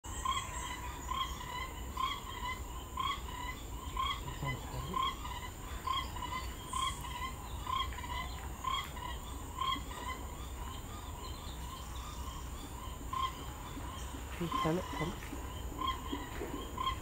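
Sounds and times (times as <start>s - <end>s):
short insect call: 0.1s - 17.0s.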